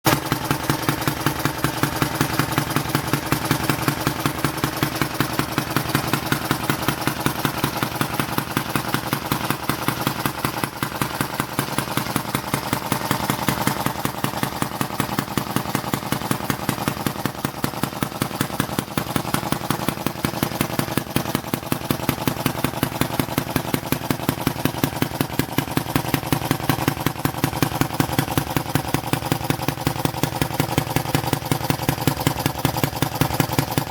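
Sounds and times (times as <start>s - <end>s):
model engine running: 0.1s - 33.9s.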